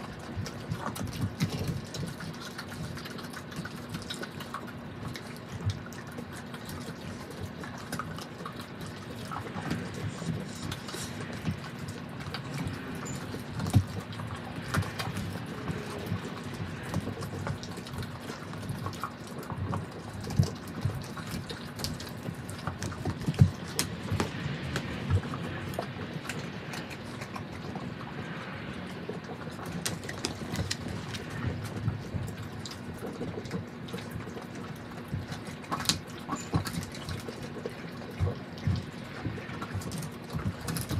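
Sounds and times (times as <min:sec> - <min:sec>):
bones crunching and cracking: 0:00.0 - 0:28.0, 0:28.9 - 0:40.9
dogs chewing wet: 0:00.0 - 0:40.9.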